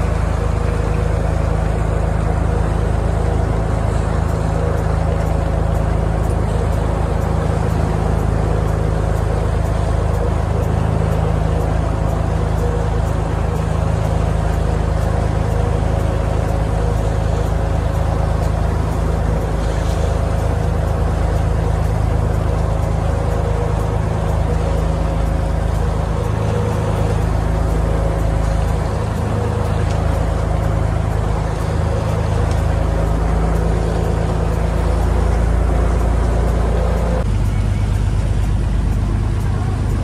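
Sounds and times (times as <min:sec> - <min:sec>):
boat engine droning: 0:00.0 - 0:40.0
water rushing along hull: 0:00.0 - 0:40.0.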